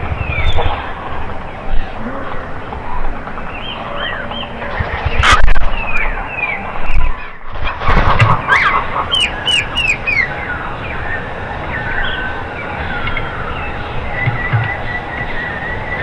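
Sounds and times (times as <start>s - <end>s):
small songbirds chirping: 0.0s - 7.4s, 8.4s - 16.0s
low rumbling bursts: 0.0s - 16.0s.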